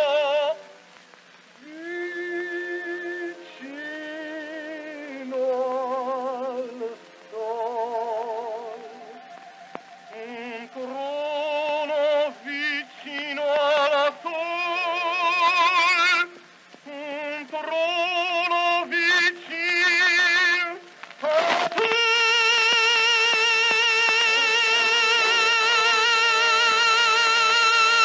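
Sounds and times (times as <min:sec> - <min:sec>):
man singing opera with vibrato: 0:00.0 - 0:00.9, 0:01.5 - 0:28.0
record surface crackle: 0:00.0 - 0:28.0.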